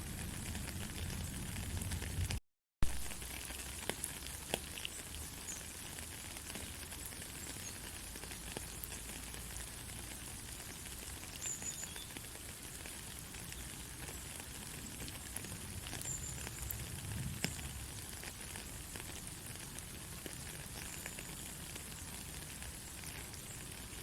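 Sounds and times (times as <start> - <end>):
rain falling in a forest: 0.0 - 24.0.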